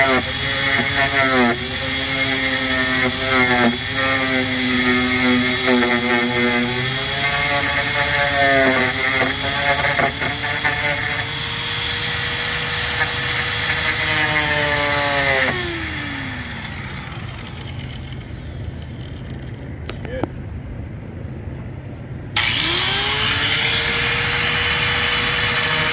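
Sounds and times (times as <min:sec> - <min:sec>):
power tool motor whine: 0:00.0 - 0:19.6, 0:22.4 - 0:25.9.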